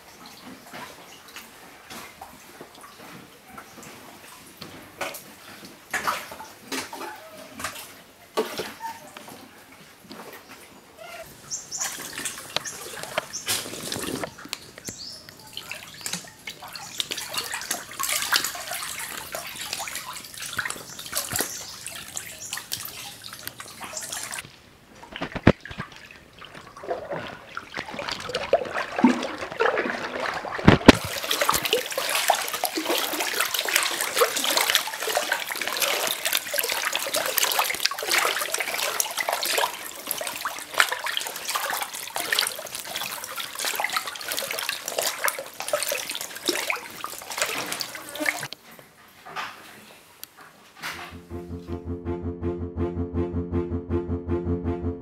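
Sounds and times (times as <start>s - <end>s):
water splashing and sloshing: 0.0s - 51.9s.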